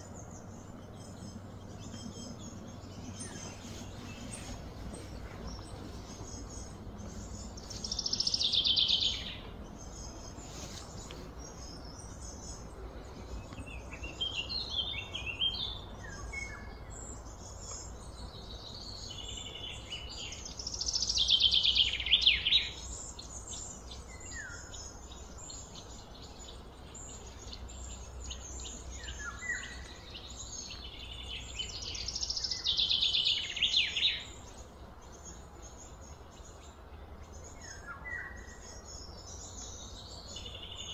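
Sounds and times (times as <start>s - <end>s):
low background hum: 0.0s - 40.9s.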